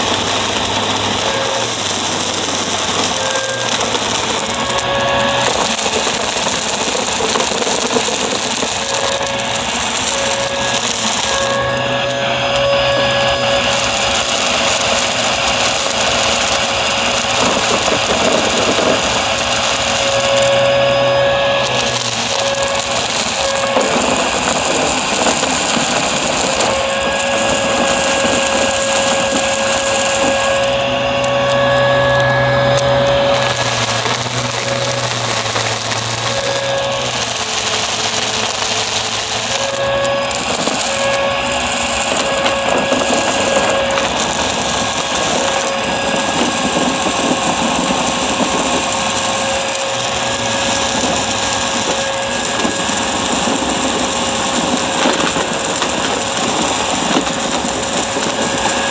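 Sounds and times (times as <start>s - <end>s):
debris rattling up vacuum: 0.0s - 58.9s
vacuum cleaner motor whine: 0.0s - 58.9s.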